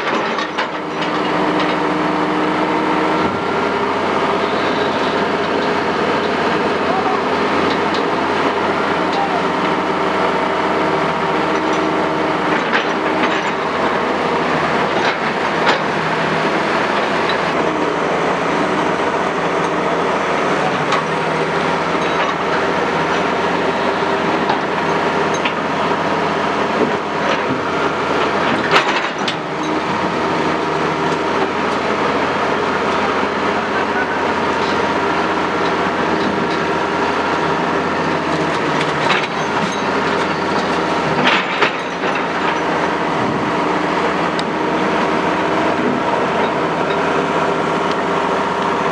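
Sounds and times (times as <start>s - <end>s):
heavy diesel machinery running: 0.0s - 48.9s.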